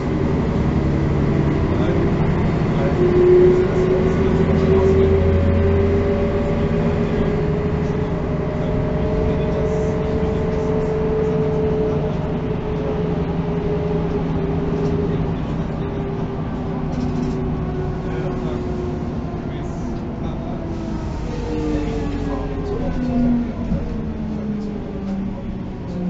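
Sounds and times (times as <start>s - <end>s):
bus engine whine: 0.0s - 26.0s.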